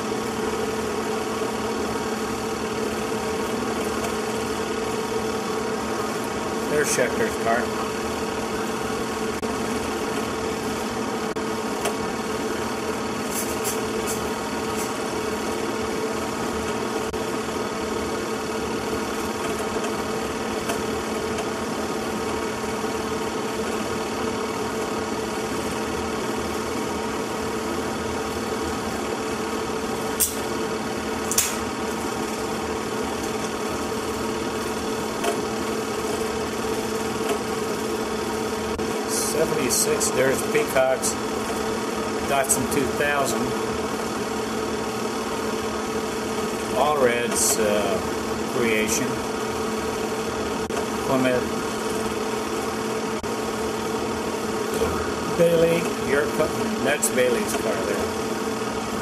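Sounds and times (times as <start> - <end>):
movie projector humming: 0.0 - 59.0.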